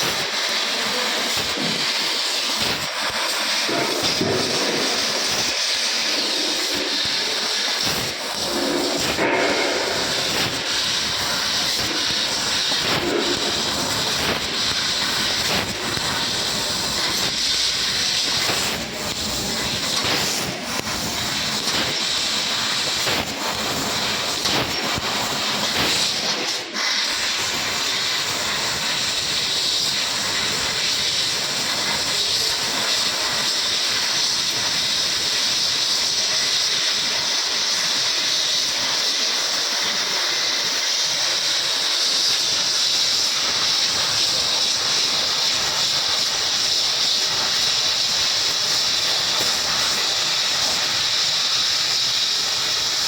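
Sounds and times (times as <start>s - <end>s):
hiss of laser cutter gas jet: 0.0s - 53.0s.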